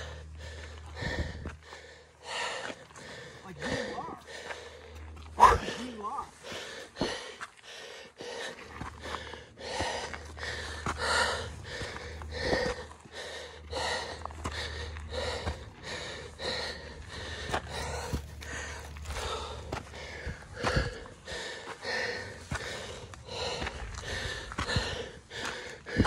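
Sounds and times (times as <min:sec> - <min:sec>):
person panting heavily: 0:00.0 - 0:26.0.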